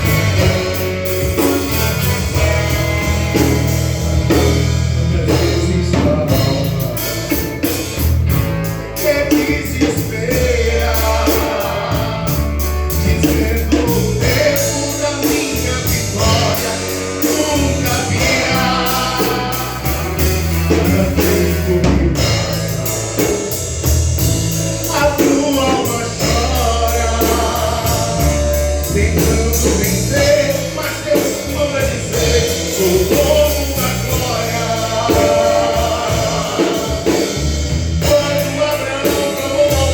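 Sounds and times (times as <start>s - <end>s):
band with drums: 0.0s - 39.9s
gospel singing: 0.0s - 39.9s.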